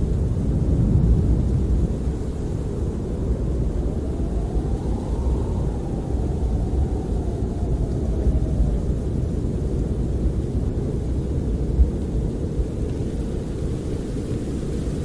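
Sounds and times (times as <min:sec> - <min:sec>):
wind blowing against a camper: 0:00.0 - 0:15.0.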